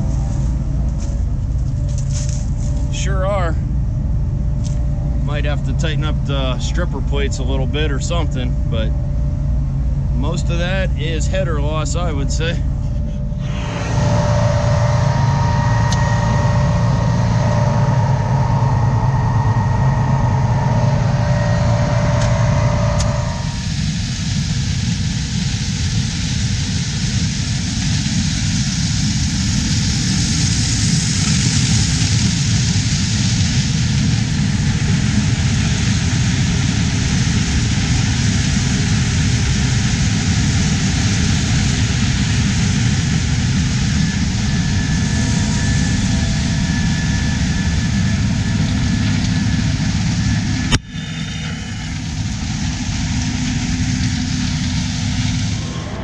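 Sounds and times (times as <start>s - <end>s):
combine harvesting rushing noise: 0.0s - 3.8s, 10.1s - 56.0s
combine machine hum: 0.0s - 56.0s.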